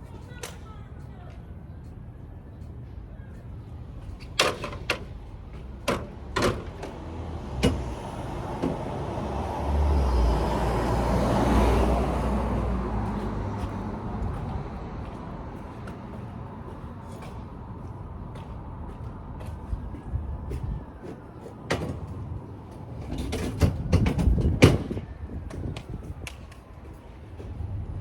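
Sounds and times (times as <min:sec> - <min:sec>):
vehicle low rumble: 0:00.0 - 0:28.0.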